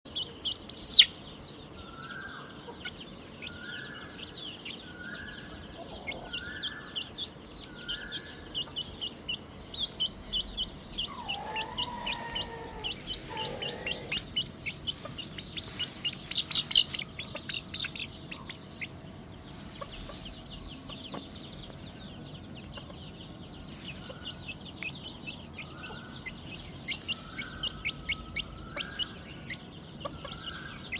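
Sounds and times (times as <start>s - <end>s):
chicks peeping: 0.1s - 30.9s
hen clucking: 5.6s - 30.9s.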